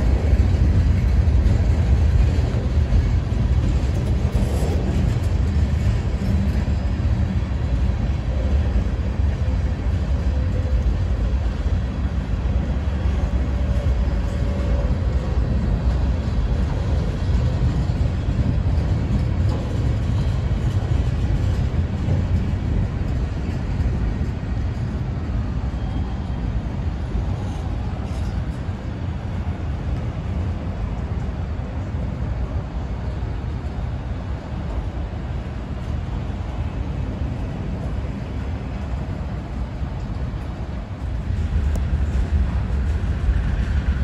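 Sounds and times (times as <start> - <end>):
freight train wheels rumbling on rail: 0.0 - 44.0.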